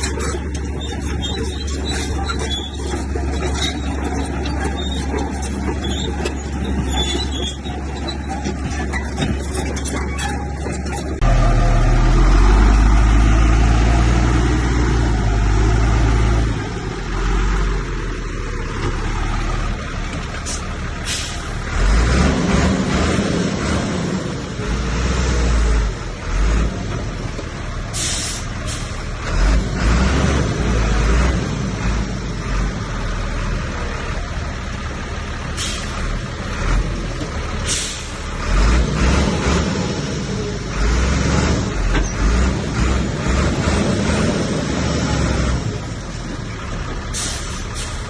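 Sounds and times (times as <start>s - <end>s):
bulldozer diesel engine rumbling: 0.0s - 48.0s.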